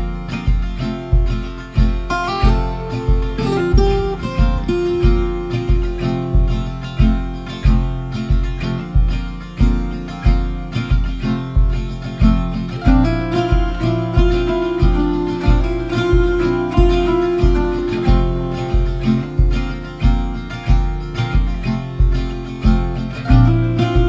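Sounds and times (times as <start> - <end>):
acoustic guitar music: 0.0 - 24.0
steady low beat: 0.0 - 24.0.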